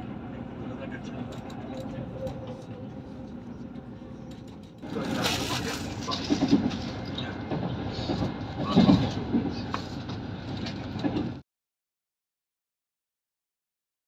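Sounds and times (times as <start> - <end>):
train wheels rumbling on track: 0.0 - 11.4.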